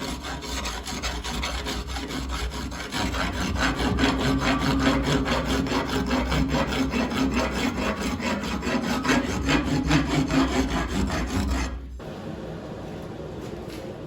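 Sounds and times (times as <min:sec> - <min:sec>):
abrasive rasping on steel: 0:00.0 - 0:12.0.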